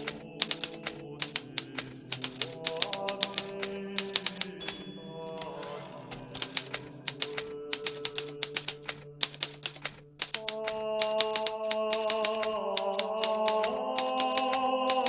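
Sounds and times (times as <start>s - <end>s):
typewriter keystrokes: 0.0s - 15.0s.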